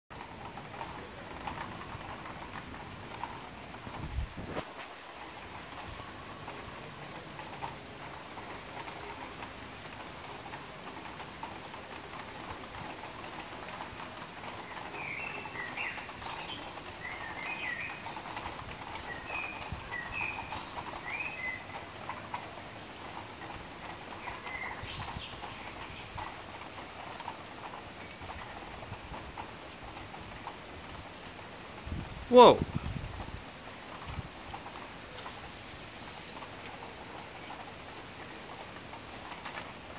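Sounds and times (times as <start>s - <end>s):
rain on hard surfaces: 0.1s - 39.9s.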